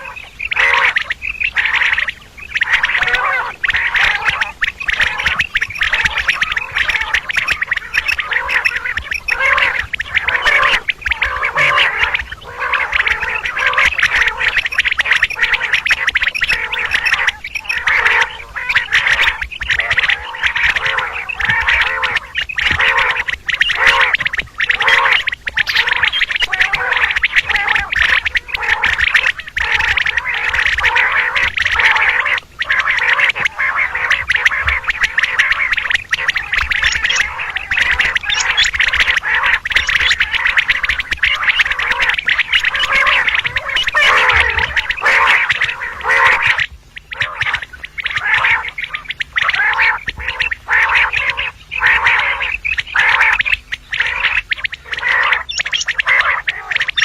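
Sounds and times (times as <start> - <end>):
quail calling rapidly: 0.0 - 57.0.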